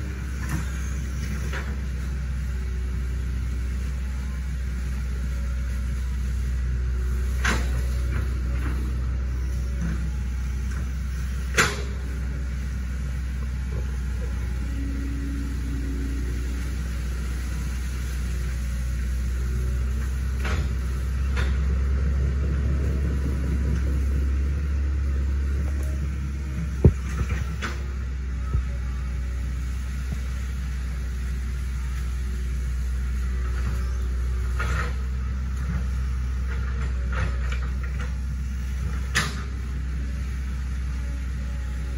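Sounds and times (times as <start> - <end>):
excavator diesel engine rumbling: 0.0 - 41.9.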